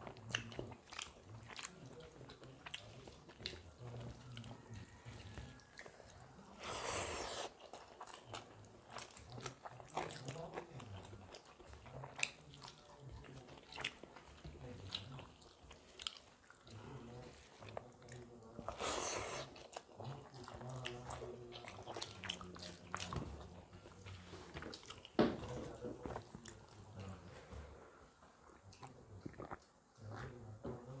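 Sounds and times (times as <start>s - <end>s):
wet chewing: 0.0s - 27.6s, 28.4s - 31.0s.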